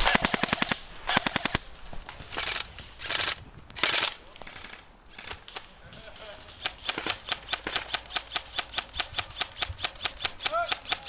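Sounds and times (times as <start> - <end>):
airsoft guns firing bursts: 0.0 - 11.0.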